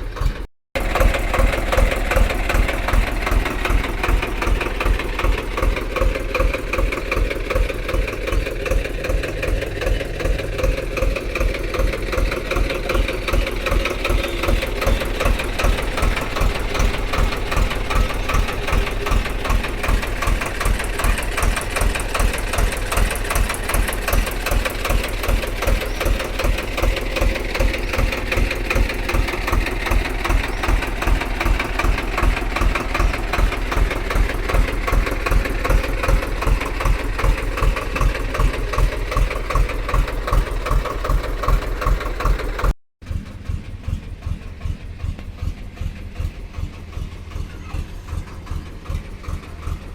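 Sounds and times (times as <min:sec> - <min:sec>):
tractor engine idling: 0:00.0 - 0:49.9.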